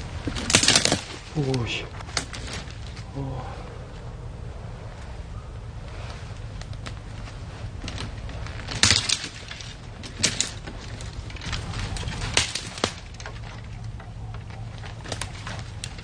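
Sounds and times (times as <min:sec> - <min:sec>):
twigs crackling and snapping: 0:00.0 - 0:04.2, 0:04.8 - 0:16.0
steady low hum: 0:00.0 - 0:16.0.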